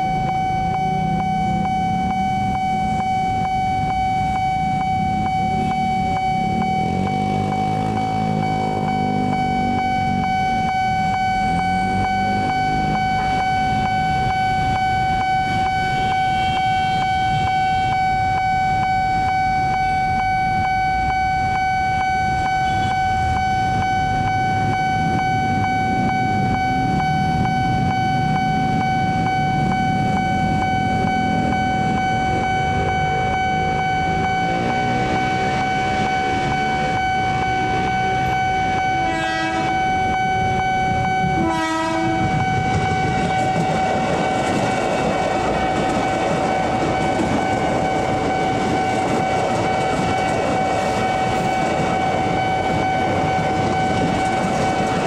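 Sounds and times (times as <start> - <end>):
level crossing alarm pulsing tone: 0.0 - 55.0
train approaching: 0.0 - 55.0.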